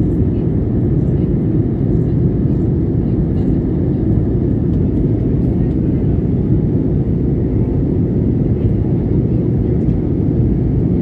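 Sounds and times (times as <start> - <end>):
jet engine and airflow rumble: 0.0 - 11.0.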